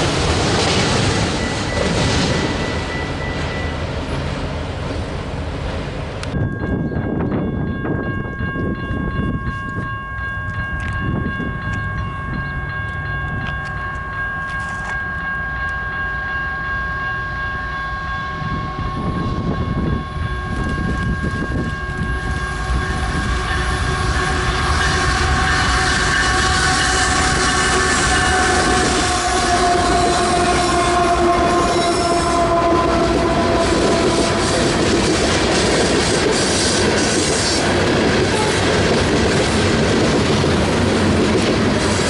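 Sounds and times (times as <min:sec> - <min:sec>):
train passing with low rumble: 0:00.0 - 0:42.0.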